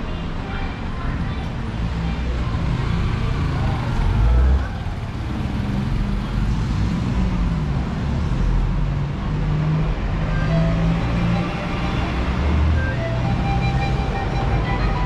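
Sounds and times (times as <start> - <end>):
road traffic noise: 0.0 - 15.0
vehicle engine running nearby: 0.0 - 15.0.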